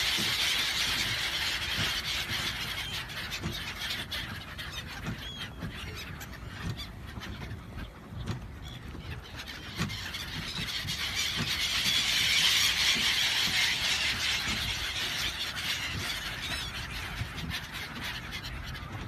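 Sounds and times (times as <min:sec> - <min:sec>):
flock of gulls calling: 0:00.0 - 0:19.0.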